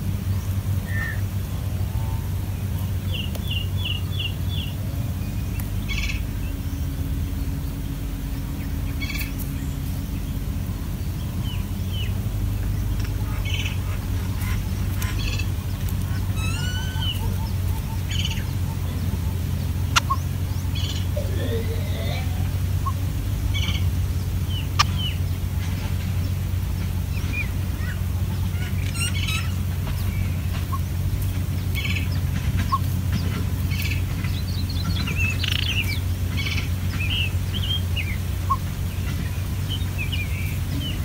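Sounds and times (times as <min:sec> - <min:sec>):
steady low hum: 0:00.0 - 0:41.0
bird chirps and calls: 0:00.3 - 0:01.3, 0:01.9 - 0:41.0.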